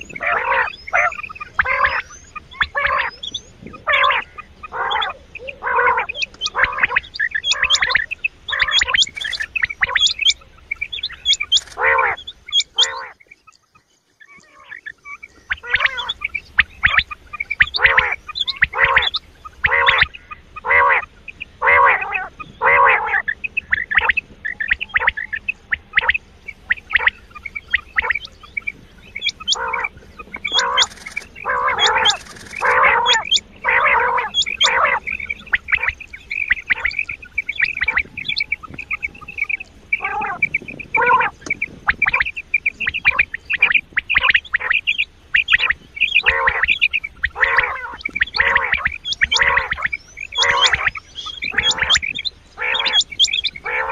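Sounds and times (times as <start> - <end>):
quail calls: 0.0 - 53.9
sharp high chirps: 6.0 - 20.4, 23.2 - 53.6.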